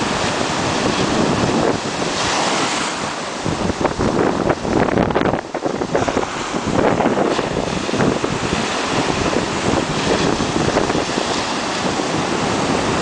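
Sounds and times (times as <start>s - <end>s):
waves breaking: 0.0s - 13.0s
wind buffeting microphone: 0.0s - 13.0s.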